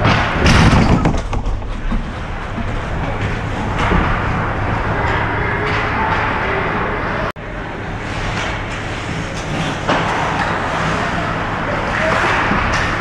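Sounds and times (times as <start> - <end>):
ice hockey arena crowd din: 1.3 - 13.0.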